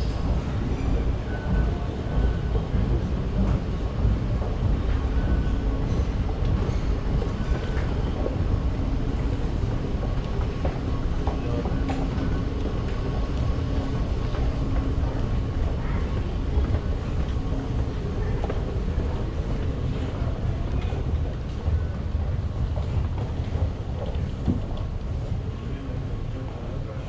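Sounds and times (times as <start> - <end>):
metro station rumble: 0.0 - 27.0.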